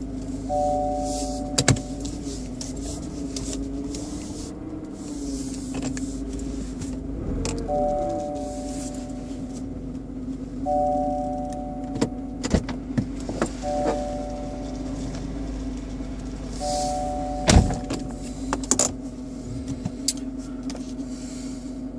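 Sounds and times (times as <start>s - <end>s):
car engine humming: 0.0s - 21.9s.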